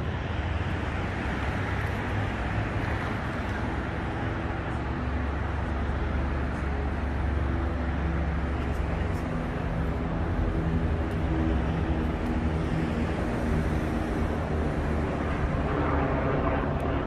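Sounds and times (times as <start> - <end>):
street traffic rumble: 0.0 - 17.0
vehicle engine hum: 0.0 - 17.0.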